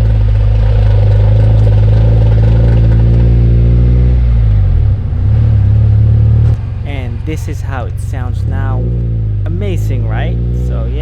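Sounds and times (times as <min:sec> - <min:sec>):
car differential droning hum: 0:00.0 - 0:11.0.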